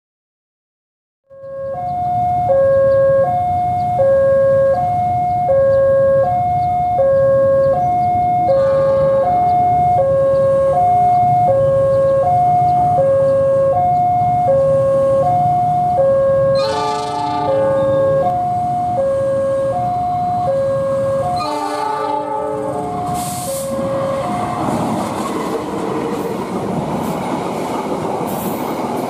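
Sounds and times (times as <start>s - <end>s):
level crossing alarm: 1.3s - 26.3s.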